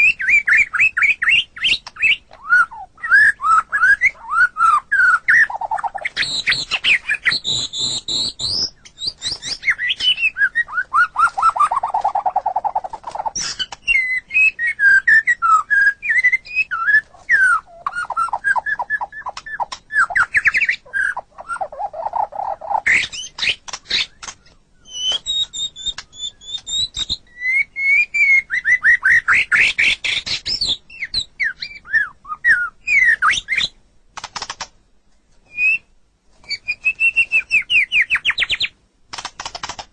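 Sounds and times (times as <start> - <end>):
bird singing whistled song: 0.0 - 33.8, 35.5 - 38.8.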